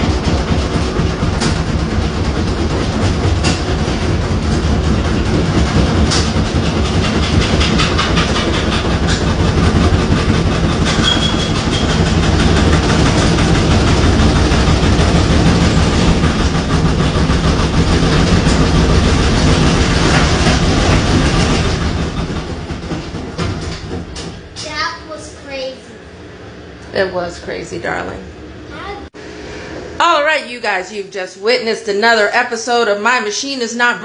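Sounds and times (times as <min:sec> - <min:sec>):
washing machine clattering: 0:00.0 - 0:25.8, 0:30.3 - 0:34.0.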